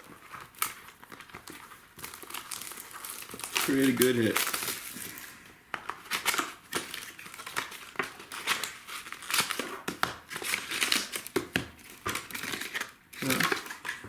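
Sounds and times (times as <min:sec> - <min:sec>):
plastic wrapping crinkling and tearing: 0:00.0 - 0:14.0.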